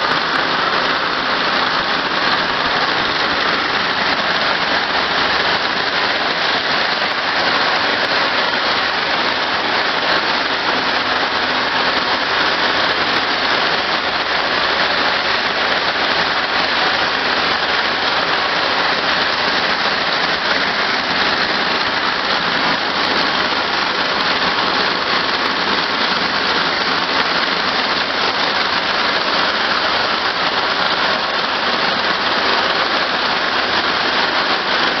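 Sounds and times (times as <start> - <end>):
braiding machine rattling: 0.0 - 35.0.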